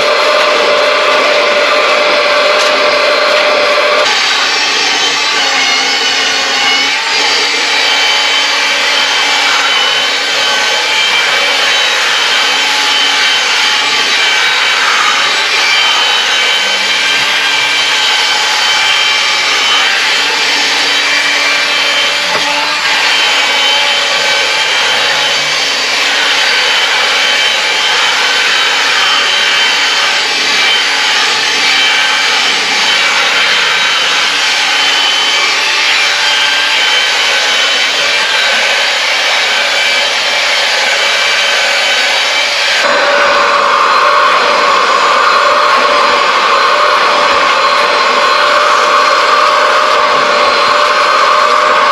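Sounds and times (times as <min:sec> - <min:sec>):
small electric motor whining: 0:00.0 - 0:51.9.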